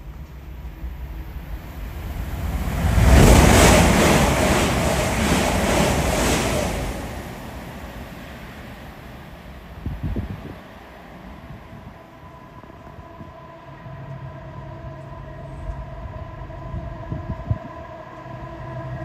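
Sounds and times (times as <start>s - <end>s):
train passing close by: 0.0s - 19.0s
wind buffeting microphone: 0.7s - 13.4s, 15.6s - 19.0s.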